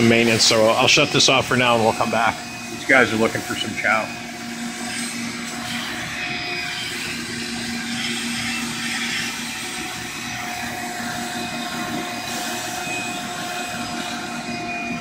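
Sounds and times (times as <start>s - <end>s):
machinery whirring with hum: 0.0s - 15.0s.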